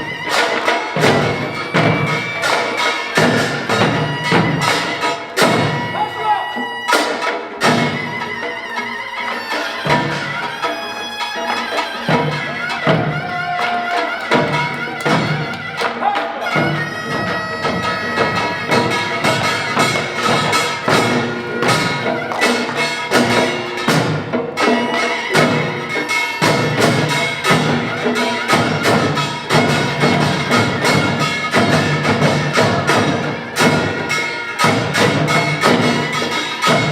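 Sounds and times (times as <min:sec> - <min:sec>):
drum strokes: 0:00.0 - 0:06.0, 0:06.9 - 0:36.9
shawm reedy melody: 0:00.0 - 0:36.9.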